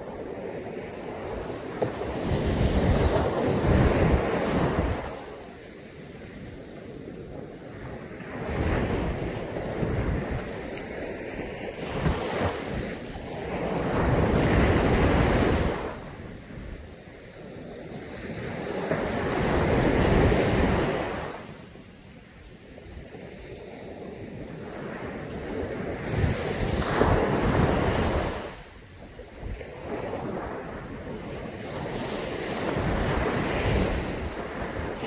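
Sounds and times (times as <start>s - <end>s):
waves breaking on a beach: 0.0s - 35.0s
wind on microphone: 0.0s - 35.0s.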